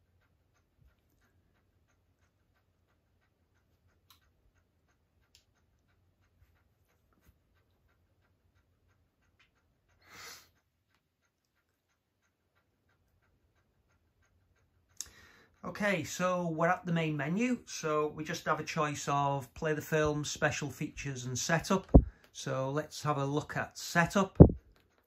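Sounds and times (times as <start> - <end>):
faint regular ticking: 0.0 - 25.0.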